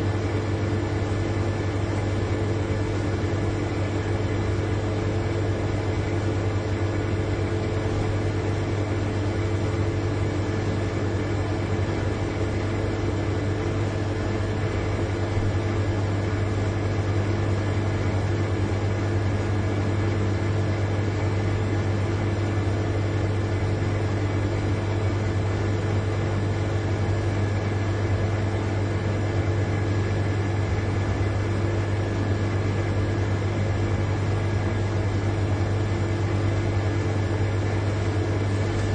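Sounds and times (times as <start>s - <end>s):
refrigerator compressor humming: 0.0s - 38.9s.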